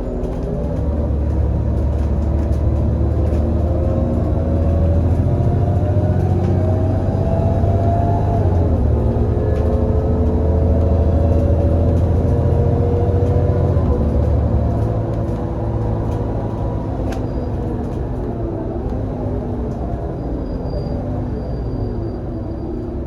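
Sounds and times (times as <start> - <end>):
bus engine whining under way: 0.0 - 23.0.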